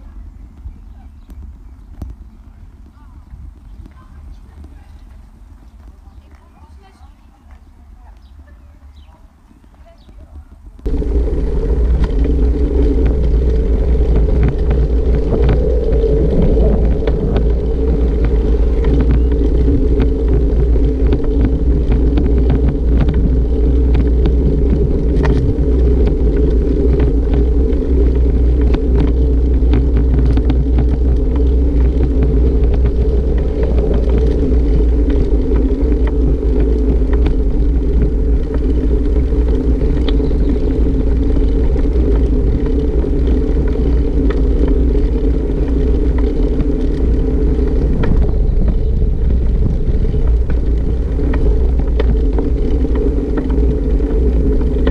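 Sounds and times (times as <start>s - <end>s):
bicycle tyres rumbling on bricks: 0.0s - 54.9s.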